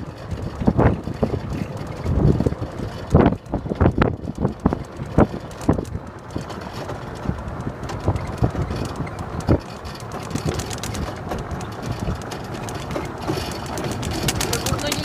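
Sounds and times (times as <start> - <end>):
electric ride-on car driving: 0.0 - 15.0
knocks and bumps while rolling: 0.0 - 15.0
wind on microphone: 0.0 - 15.0.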